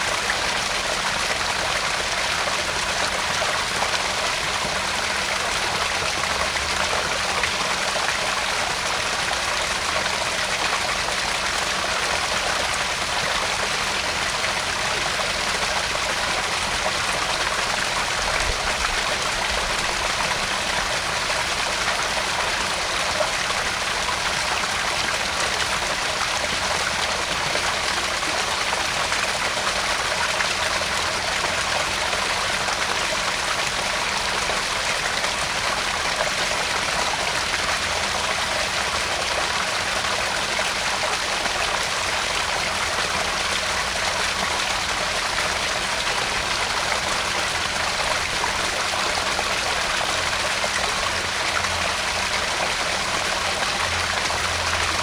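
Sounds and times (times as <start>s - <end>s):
waterfall splashing over rocks: 0.0s - 55.0s.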